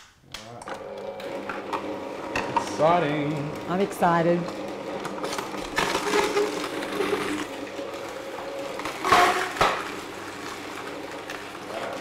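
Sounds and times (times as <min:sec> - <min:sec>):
juicer crushing produce: 0:00.4 - 0:12.0.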